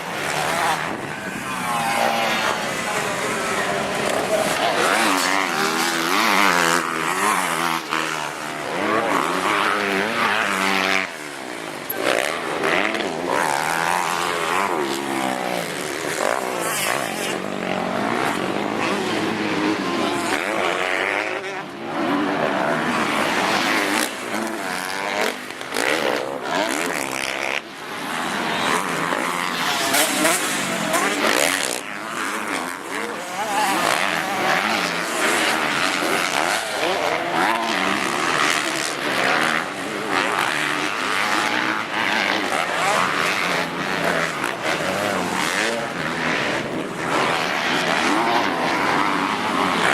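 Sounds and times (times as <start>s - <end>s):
motocross bike engines racing: 0.0s - 49.9s.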